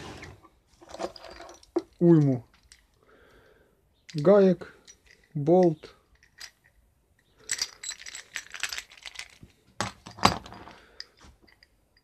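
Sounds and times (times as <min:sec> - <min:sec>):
nuts and washers clinking: 0:00.2 - 0:03.4, 0:04.0 - 0:12.0.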